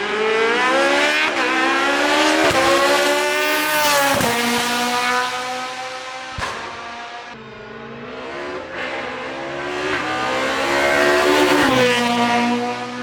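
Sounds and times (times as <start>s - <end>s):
race car accelerating with upshifts: 0.0s - 13.0s.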